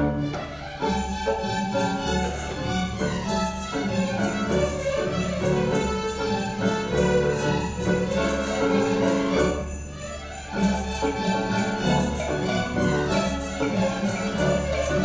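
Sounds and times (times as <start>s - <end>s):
orchestra playing a lively tune: 0.0s - 15.0s
sleigh bells shaking: 0.8s - 15.0s.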